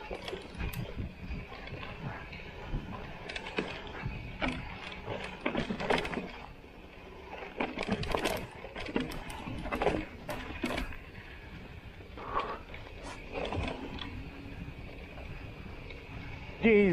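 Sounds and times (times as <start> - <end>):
bike knocks and rattles: 0.0 - 6.6, 7.3 - 11.2, 12.2 - 16.5.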